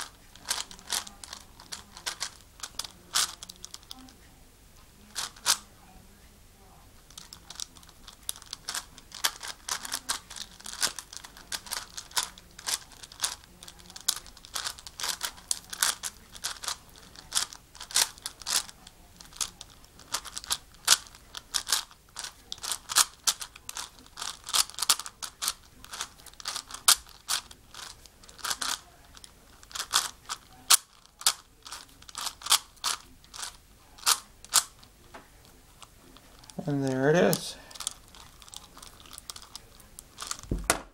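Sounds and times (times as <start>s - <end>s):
puzzle cube plastic clicking: 0.0s - 4.1s, 5.2s - 5.6s, 7.0s - 35.0s, 37.3s - 40.9s.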